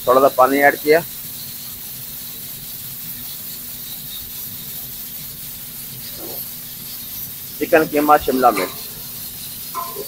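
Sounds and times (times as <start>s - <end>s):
water sizzling in hot pan: 0.0s - 10.0s.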